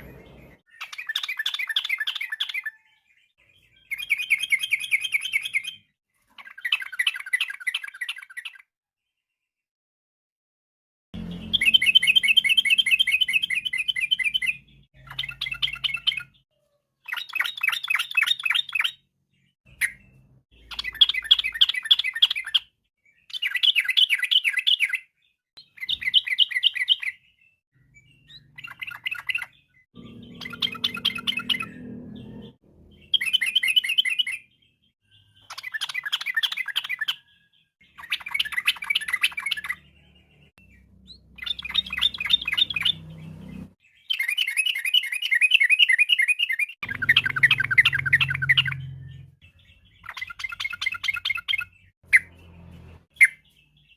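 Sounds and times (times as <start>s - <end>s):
bird chattering song: 0.0s - 8.7s, 11.2s - 53.9s.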